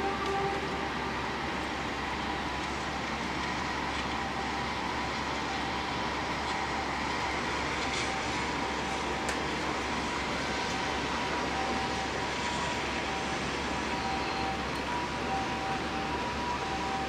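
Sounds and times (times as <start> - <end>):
city and railway noise: 0.0 - 17.0.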